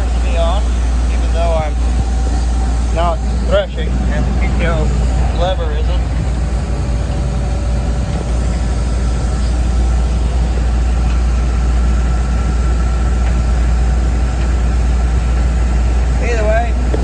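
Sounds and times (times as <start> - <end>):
combine harvester engine rumbling: 0.0 - 17.0
faint steady whine: 0.0 - 17.0.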